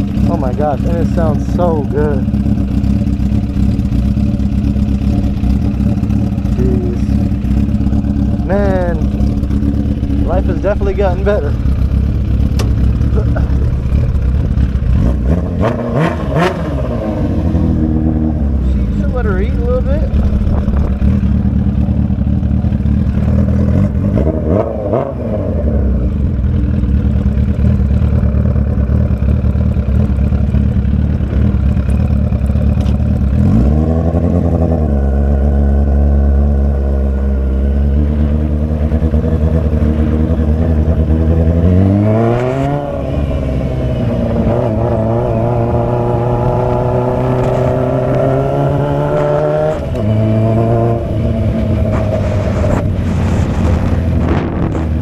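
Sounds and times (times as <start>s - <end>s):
motorcycle exhaust revving: 0.0s - 55.0s.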